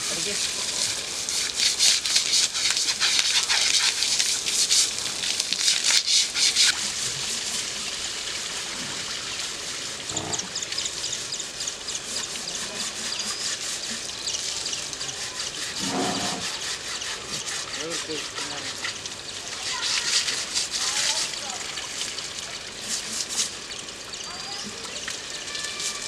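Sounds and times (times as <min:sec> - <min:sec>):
hose water spraying and splashing: 0:00.0 - 0:26.0
water trickling: 0:00.0 - 0:26.0.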